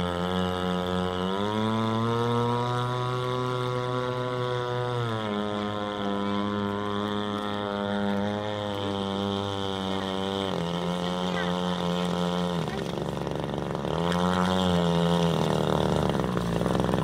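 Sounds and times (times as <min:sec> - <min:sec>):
model boat engine droning: 0:00.0 - 0:17.0.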